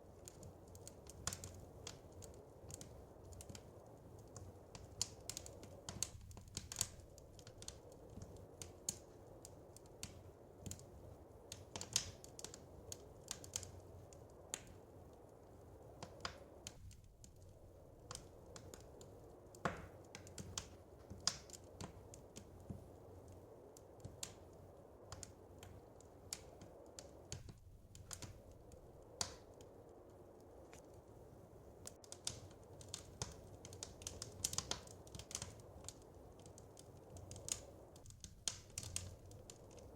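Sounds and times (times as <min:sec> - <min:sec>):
low steady hiss: 0:00.0 - 0:39.9
wood fire crackling: 0:00.0 - 0:39.9.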